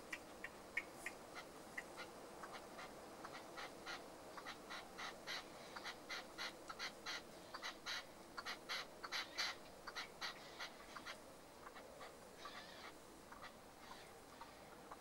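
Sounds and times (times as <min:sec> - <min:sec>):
partridge calling: 0:00.1 - 0:15.0.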